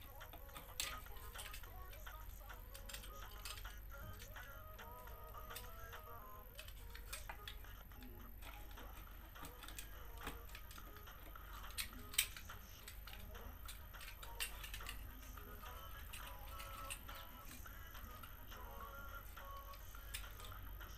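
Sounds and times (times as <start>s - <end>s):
faint plastic clicks and scraping: 0.0s - 20.9s
low steady hum: 0.0s - 20.9s.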